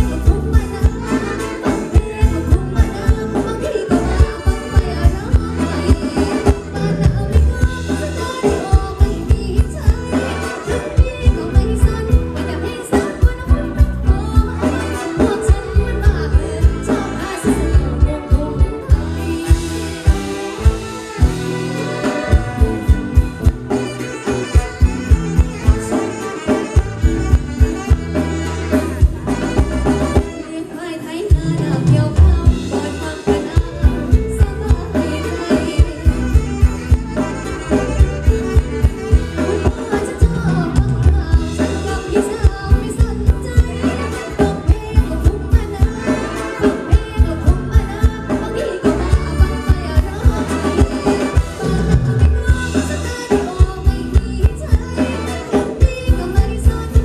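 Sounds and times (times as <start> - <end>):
steady drum beat: 0.0 - 30.4, 31.3 - 57.0
electric guitar: 0.0 - 57.0
woman singing: 0.0 - 57.0.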